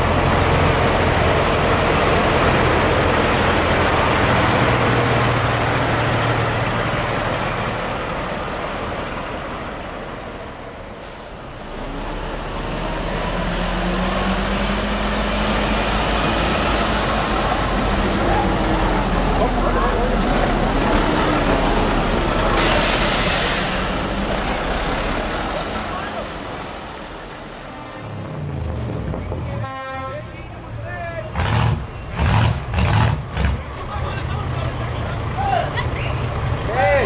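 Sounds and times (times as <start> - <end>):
truck diesel engines passing: 0.0 - 37.0.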